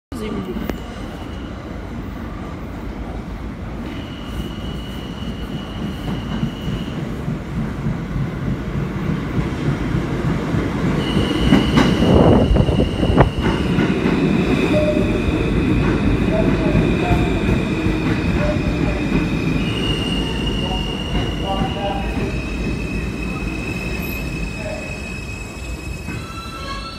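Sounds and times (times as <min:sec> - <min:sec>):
subway train rumble: 0:00.1 - 0:26.9
train cars rushing past: 0:00.2 - 0:26.9.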